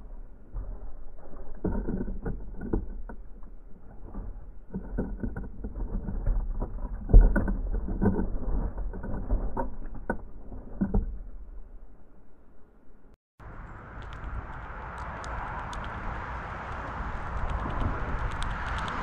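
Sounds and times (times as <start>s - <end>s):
birds pecking seed on wood: 0.0s - 11.2s, 13.4s - 19.0s.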